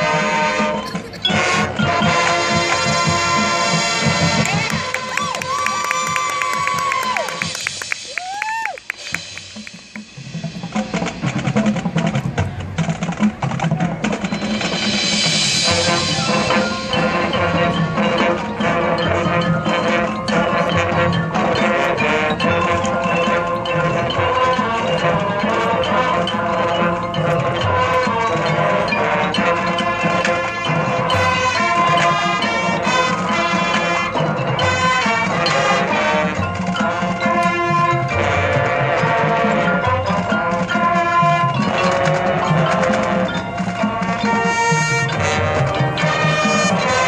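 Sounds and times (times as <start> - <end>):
drum and mallet percussion hits: 0.0 - 47.0
marching band playing: 0.0 - 47.0.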